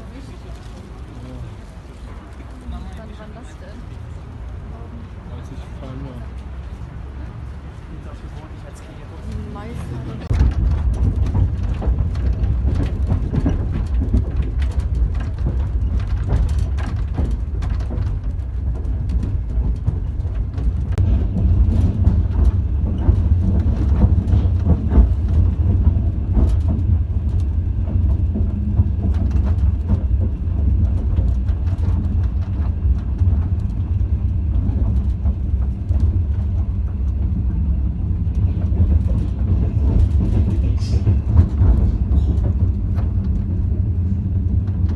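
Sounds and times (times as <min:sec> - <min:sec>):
train rumbling: 0:00.0 - 0:44.9
wheels clattering over rails: 0:00.0 - 0:44.9.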